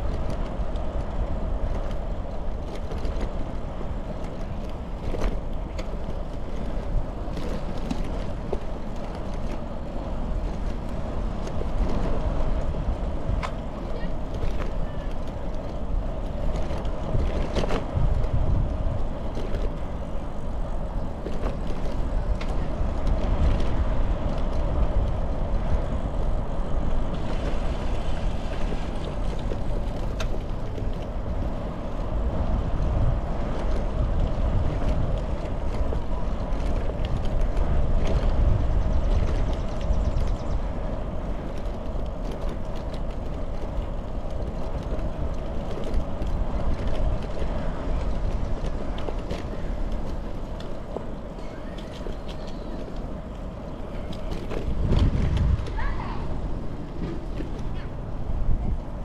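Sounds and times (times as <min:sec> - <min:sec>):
tyres rolling on asphalt: 0:00.0 - 0:59.0
wind buffeting microphone: 0:00.0 - 0:59.0.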